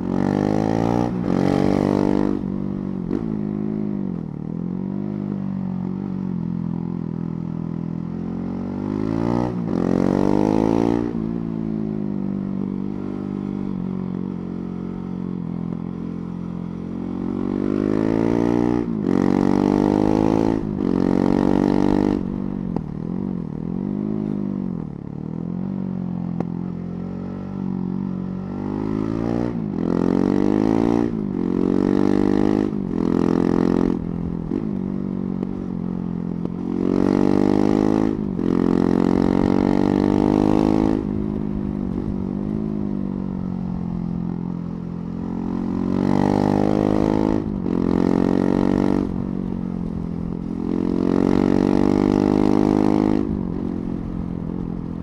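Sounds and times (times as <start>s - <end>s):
motorcycle engine revving: 0.0s - 6.9s, 8.0s - 55.0s.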